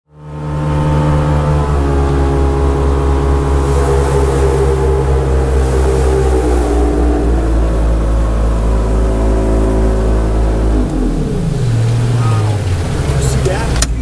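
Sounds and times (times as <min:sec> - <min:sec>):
engine running steadily: 0:00.1 - 0:14.0.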